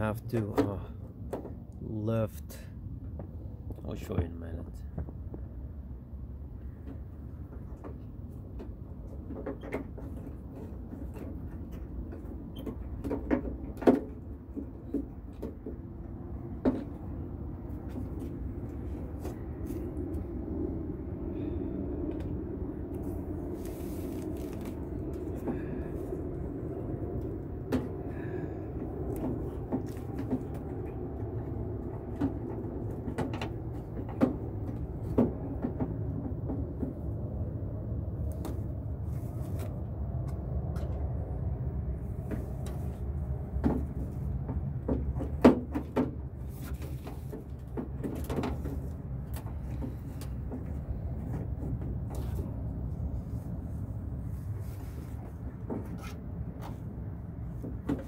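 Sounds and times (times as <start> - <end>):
steady low rumble: 0.0 - 45.5, 46.1 - 58.0.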